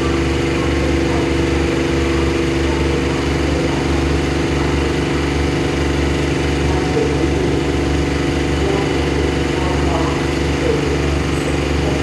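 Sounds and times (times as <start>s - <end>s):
train diesel engine idling: 0.0s - 12.0s.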